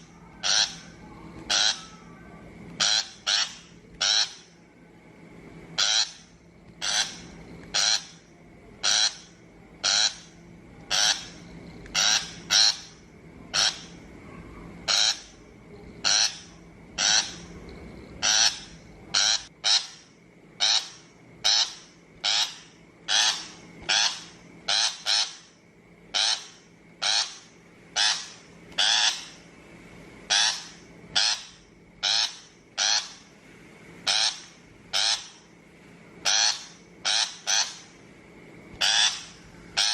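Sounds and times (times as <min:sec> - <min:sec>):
shrike harsh rasping calls: 0:00.0 - 0:04.6, 0:05.7 - 0:15.4, 0:16.0 - 0:29.5, 0:30.3 - 0:33.3, 0:34.0 - 0:35.5, 0:36.2 - 0:38.0, 0:38.8 - 0:39.9.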